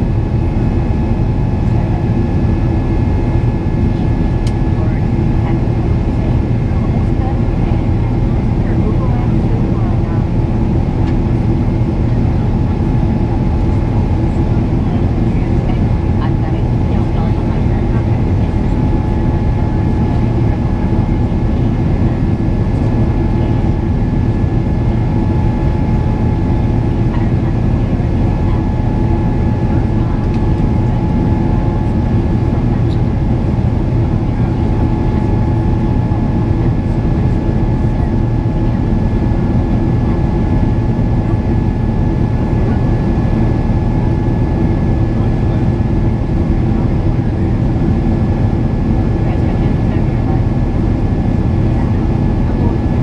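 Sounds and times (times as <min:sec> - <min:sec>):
high engine whine: 0:00.0 - 0:53.0
jet engine rushing: 0:00.0 - 0:53.0.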